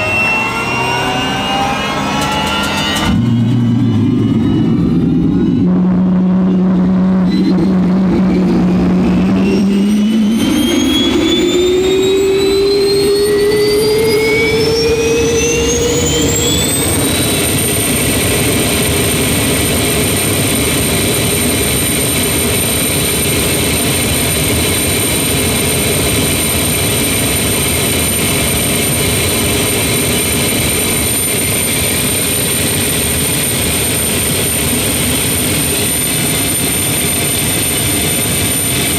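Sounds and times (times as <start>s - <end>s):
jet engine spooling up: 0.0s - 38.9s.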